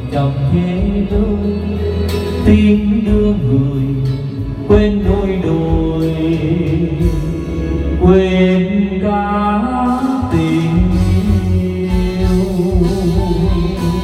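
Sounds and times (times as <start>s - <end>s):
karaoke backing music: 0.0s - 14.0s.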